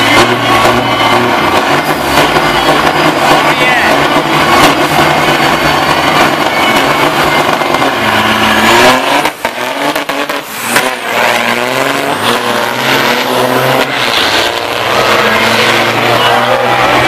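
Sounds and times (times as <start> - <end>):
diesel trucks accelerating hard: 0.0 - 17.0.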